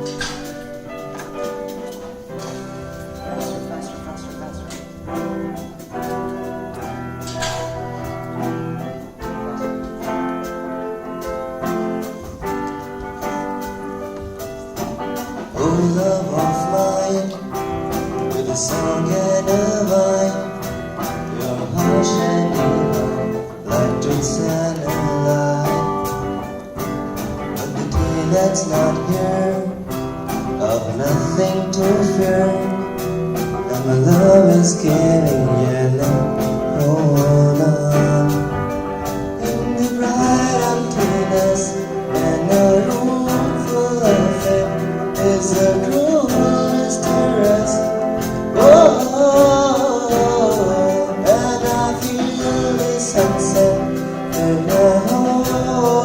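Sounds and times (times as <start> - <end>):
guitar-led song with steady beat: 0.0 - 56.0.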